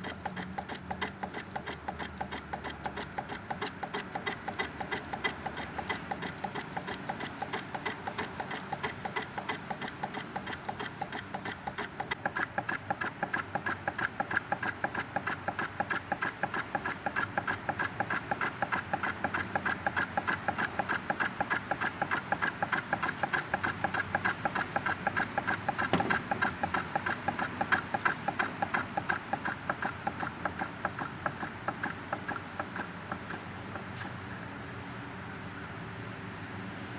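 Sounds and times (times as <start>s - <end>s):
hot air engine knocking: 0.0s - 34.2s.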